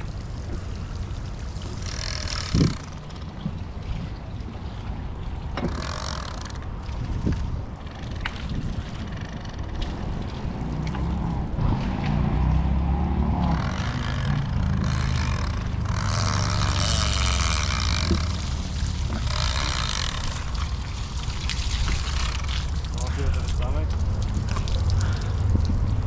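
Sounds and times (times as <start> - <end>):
motorboat engine humming: 0.0 - 26.0
rushing water: 0.0 - 26.0.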